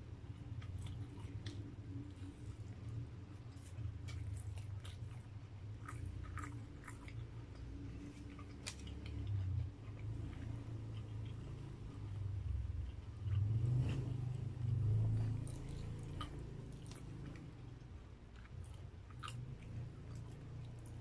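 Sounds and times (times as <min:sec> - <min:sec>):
chewing meat: 0:00.0 - 0:21.0
steady low hum: 0:00.0 - 0:21.0.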